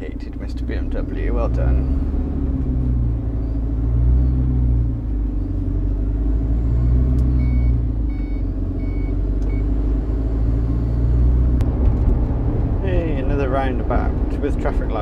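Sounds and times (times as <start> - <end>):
diesel lorry engine rumble: 0.0 - 15.0.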